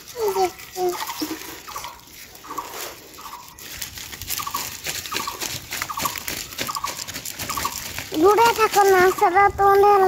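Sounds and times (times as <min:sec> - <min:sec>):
bird rattling call: 0:00.0 - 0:09.6.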